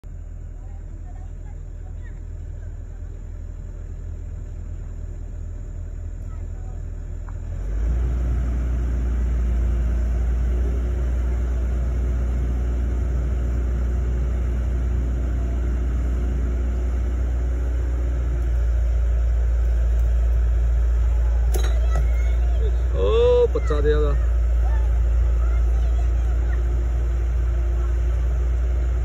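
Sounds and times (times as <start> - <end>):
excavator diesel engine rumbling: 0.0 - 29.0.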